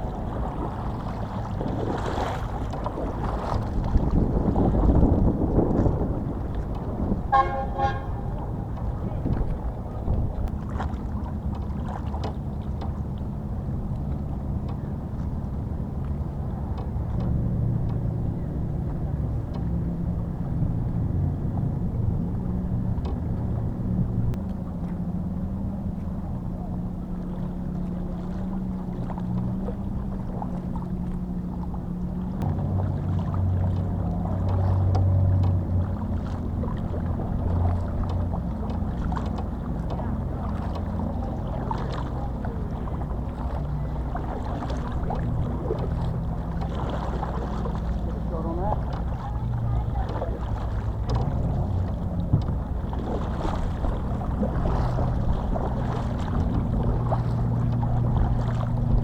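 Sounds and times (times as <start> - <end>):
boat engine running: 0.0 - 59.0
water noise: 0.0 - 59.0
wind: 0.0 - 59.0.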